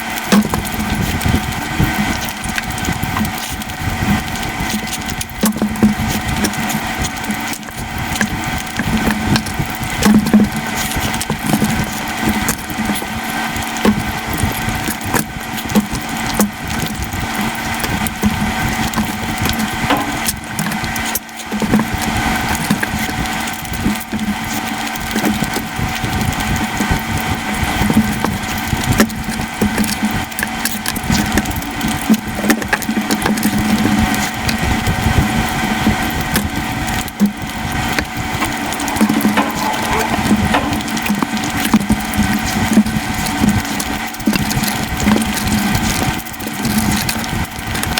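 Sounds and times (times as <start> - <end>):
rapid chewing clicks: 0.0 - 47.9.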